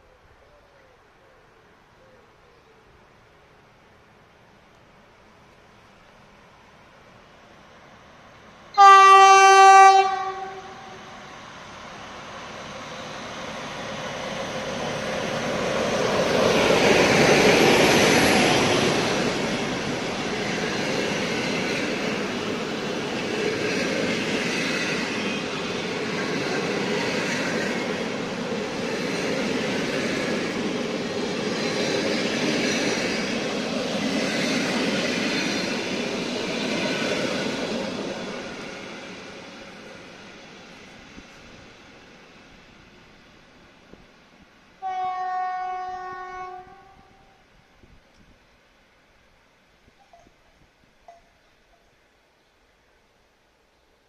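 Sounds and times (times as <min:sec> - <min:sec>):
diesel train passing: 0:01.0 - 0:54.0
wheels rumbling on rail: 0:02.7 - 0:53.2.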